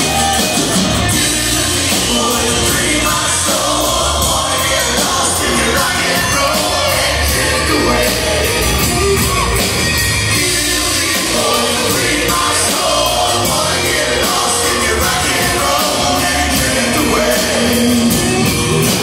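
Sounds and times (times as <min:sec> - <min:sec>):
man singing: 0:00.0 - 0:09.0, 0:10.3 - 0:18.4
drums: 0:00.0 - 0:19.0.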